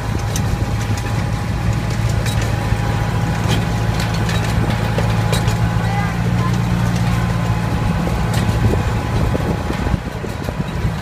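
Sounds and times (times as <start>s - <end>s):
small train engine humming: 0.0s - 11.0s.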